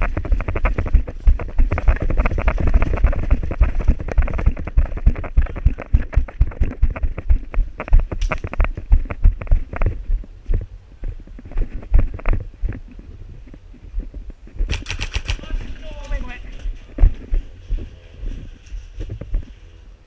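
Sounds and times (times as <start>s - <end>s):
running footsteps: 0.0s - 19.7s.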